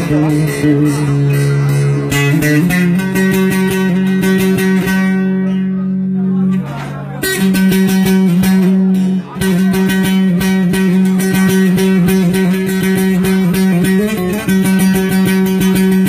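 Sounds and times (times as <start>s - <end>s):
long-necked lute melody: 0.0s - 16.0s.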